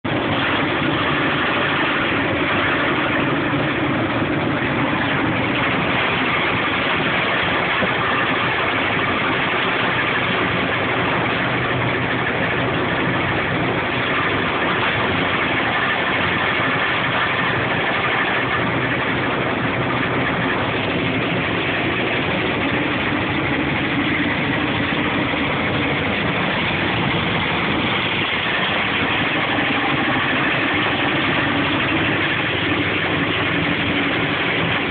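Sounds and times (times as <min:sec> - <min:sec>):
wood chipper running: 0:00.0 - 0:34.9.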